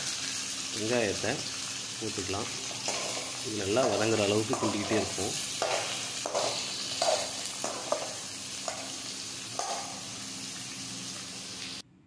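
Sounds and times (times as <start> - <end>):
onions sizzling in hot oil: 0.0 - 11.8.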